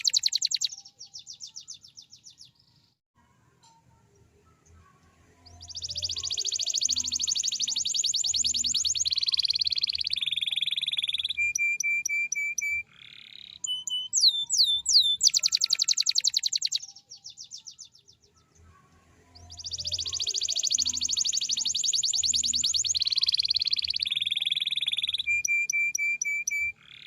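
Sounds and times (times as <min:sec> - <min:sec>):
canary singing trills: 0:00.0 - 0:02.7, 0:04.2 - 0:27.0.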